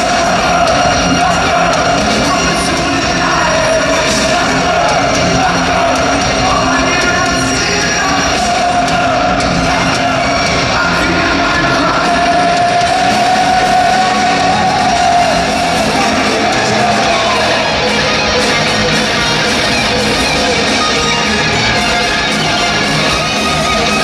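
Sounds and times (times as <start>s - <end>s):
metal band with orchestra: 0.0s - 24.0s.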